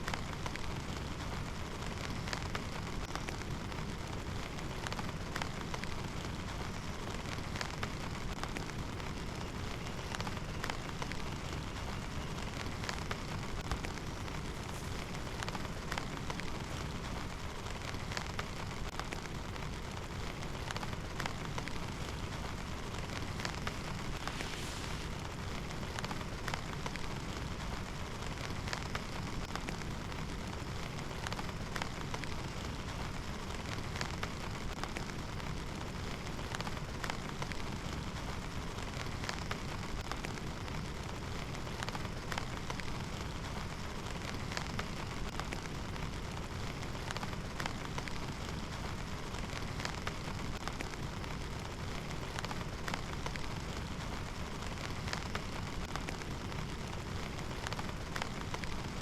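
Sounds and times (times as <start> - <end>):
heavy rain falling: 0.0 - 59.0
raindrops ticking: 0.0 - 59.0.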